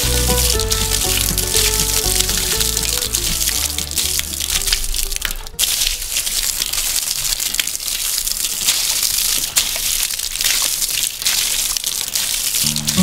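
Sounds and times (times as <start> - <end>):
bubbles popping: 0.0 - 13.0
water stream pouring into water: 0.0 - 13.0.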